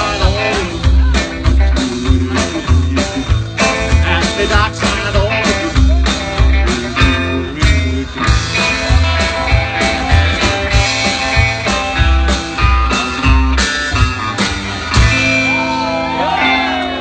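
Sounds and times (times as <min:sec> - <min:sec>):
live rockabilly band playing: 0:00.0 - 0:17.0.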